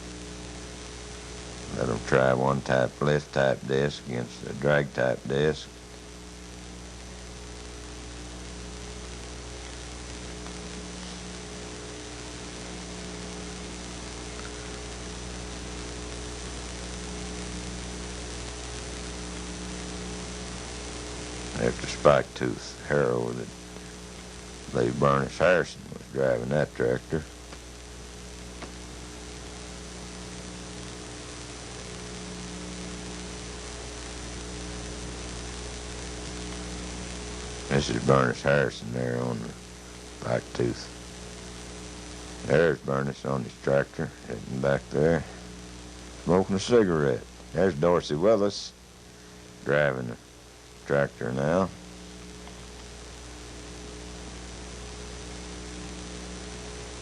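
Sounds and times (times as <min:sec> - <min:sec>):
constant hiss: 0:00.0 - 0:57.0
electrical mains hum: 0:00.0 - 0:57.0.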